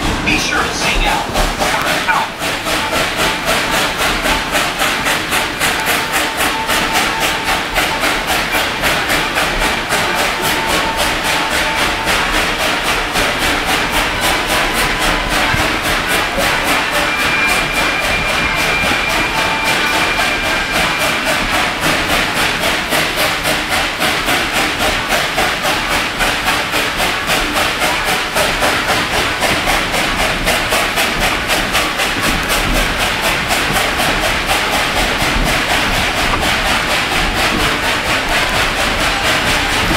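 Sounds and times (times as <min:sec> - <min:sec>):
steam train beat: 0:00.0 - 0:39.9.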